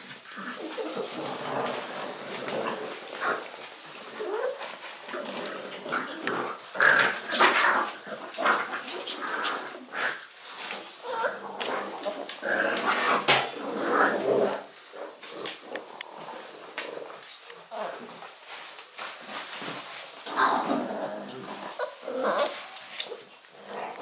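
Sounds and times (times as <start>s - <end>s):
puppies growling in play: 0.0s - 24.0s.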